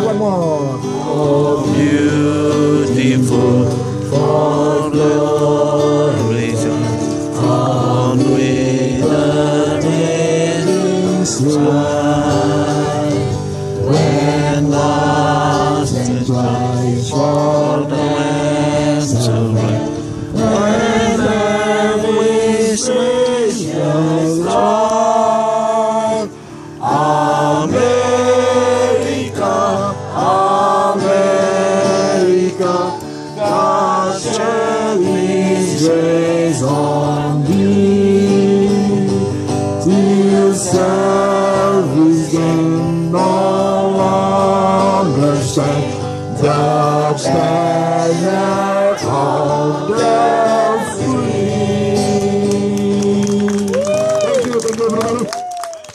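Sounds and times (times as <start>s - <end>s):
group of people singing: 0.8s - 53.8s.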